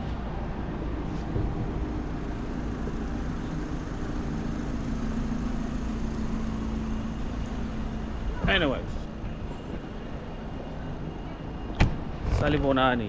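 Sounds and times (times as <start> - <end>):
constant mechanical hum: 0.0 - 13.0
traffic rumble: 0.0 - 13.0.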